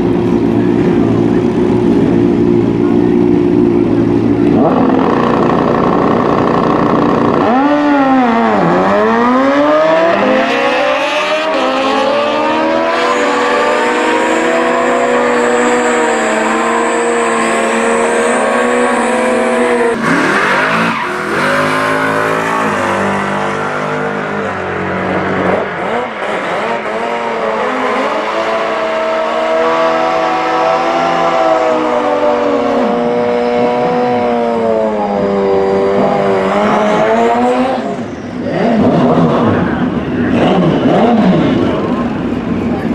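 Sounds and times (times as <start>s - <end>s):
motorcycle engines revving: 0.0s - 42.9s
motorcycles accelerating with upshifts: 0.0s - 42.9s.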